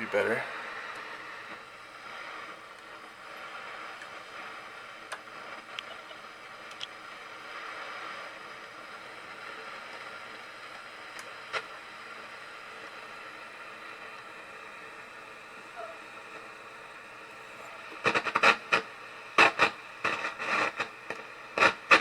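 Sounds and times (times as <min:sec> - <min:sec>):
sharp crackles and pops: 0:00.1 - 0:22.0.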